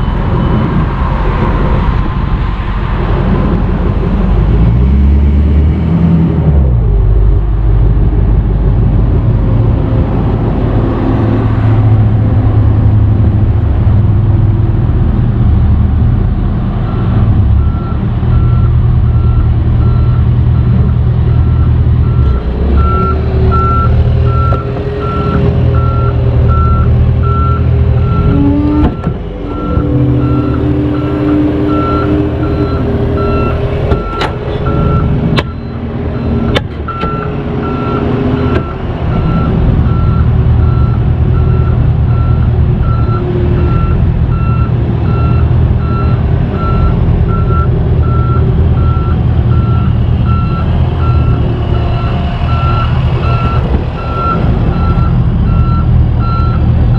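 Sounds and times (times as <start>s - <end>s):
diesel truck engine droning: 0.0s - 56.9s.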